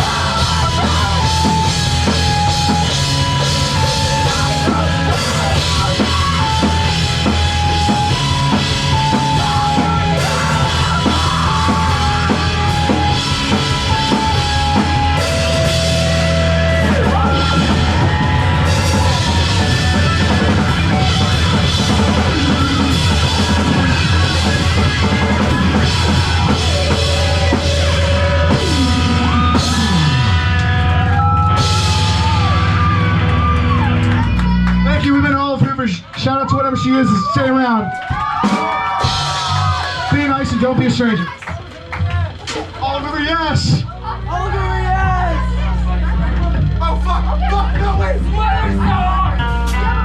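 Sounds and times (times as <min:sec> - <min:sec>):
drum kit: 0:00.0 - 0:35.4, 0:38.0 - 0:40.6, 0:44.4 - 0:50.0
bass: 0:00.0 - 0:50.0.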